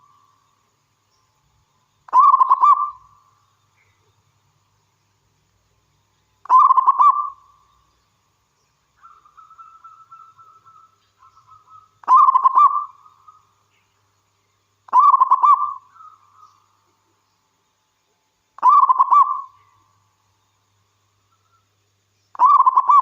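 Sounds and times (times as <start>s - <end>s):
soft rolling bird trills: 0.0s - 23.0s.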